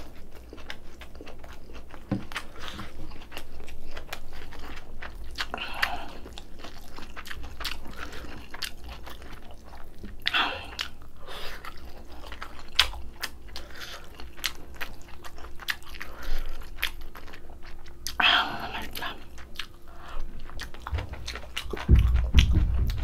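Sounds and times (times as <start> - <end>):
crisp crunchy chewing: 0.0 - 18.2, 18.8 - 23.0.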